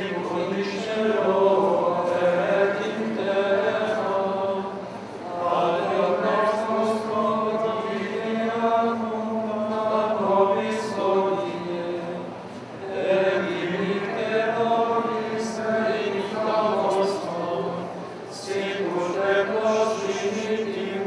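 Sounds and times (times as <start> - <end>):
men chanting liturgical chant: 0.0 - 21.0.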